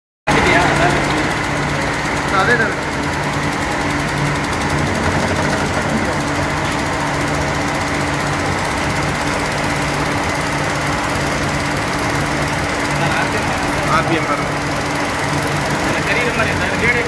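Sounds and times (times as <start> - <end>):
steady mechanical hum: 0.3 - 17.0.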